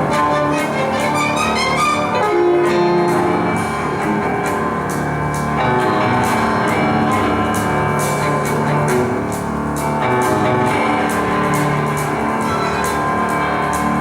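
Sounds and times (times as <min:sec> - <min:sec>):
piano and orchestra playing: 0:00.0 - 0:14.0.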